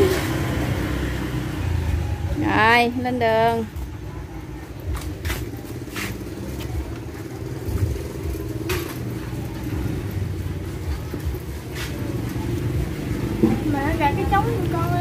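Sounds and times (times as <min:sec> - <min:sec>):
motorbike engine rumbling: 0:00.0 - 0:15.0.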